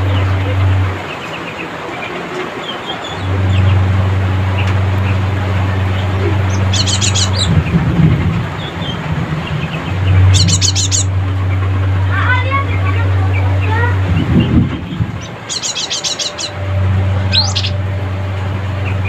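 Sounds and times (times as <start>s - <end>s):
fast run of sharp bird notes: 0.0s - 19.0s
steady low hum: 0.0s - 19.0s.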